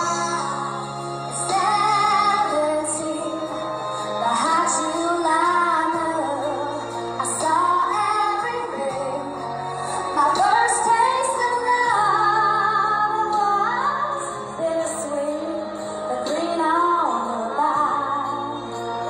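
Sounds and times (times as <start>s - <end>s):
woman singing country ballad: 0.0s - 18.9s.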